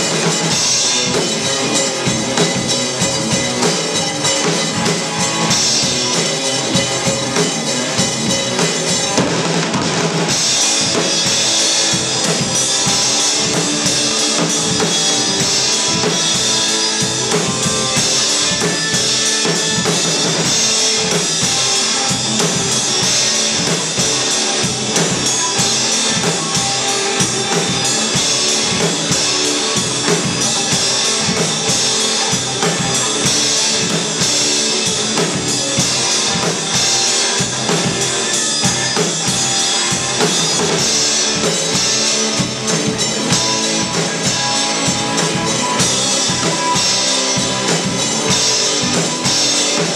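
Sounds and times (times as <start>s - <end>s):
cymbals: 0.0s - 49.9s
drum kit: 0.0s - 49.9s
electric guitars: 0.0s - 49.9s.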